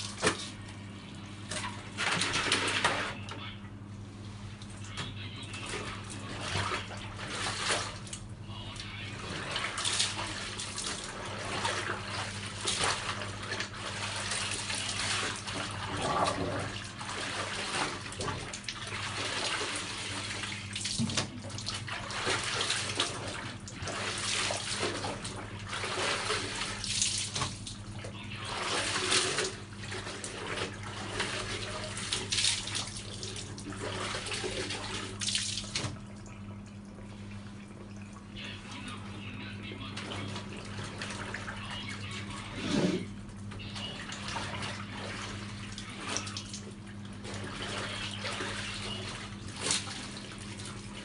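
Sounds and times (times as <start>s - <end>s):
clothes sloshing in bucket water: 0.0s - 3.2s, 4.2s - 51.0s
steady low hum: 0.0s - 51.0s.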